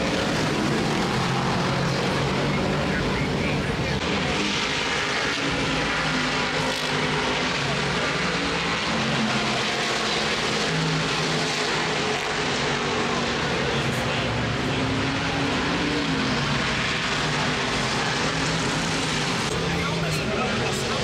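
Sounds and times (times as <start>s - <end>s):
engines droning: 0.0s - 21.0s.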